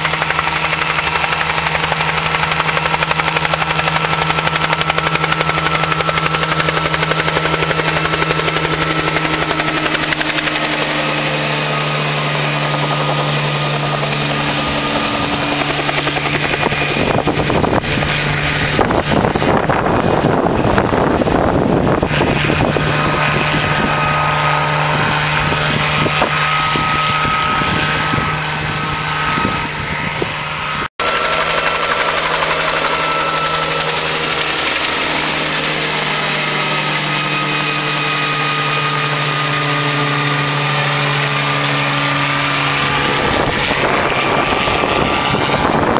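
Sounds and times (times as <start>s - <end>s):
helicopter flying low overhead: 0.0s - 45.9s.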